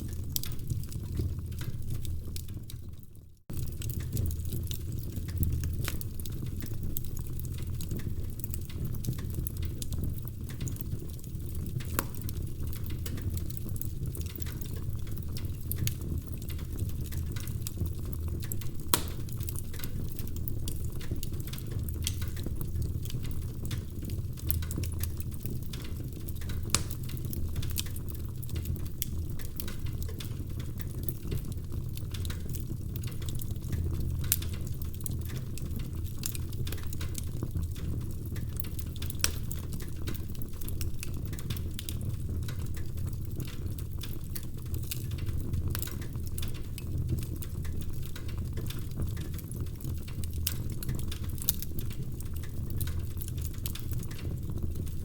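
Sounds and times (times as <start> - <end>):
low rumble of flames: 0.0 - 55.0
wood crackling and popping: 0.0 - 55.0.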